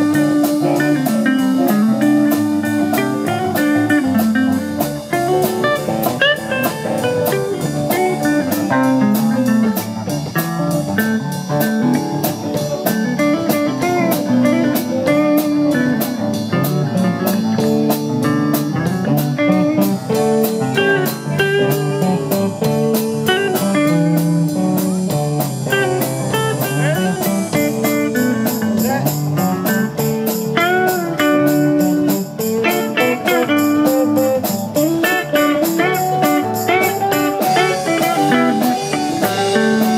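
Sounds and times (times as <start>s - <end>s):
bass guitar: 0.0s - 39.9s
drum kit with cymbals: 0.0s - 39.9s
electric lead guitar: 0.0s - 39.9s
second electric guitar: 0.0s - 39.9s.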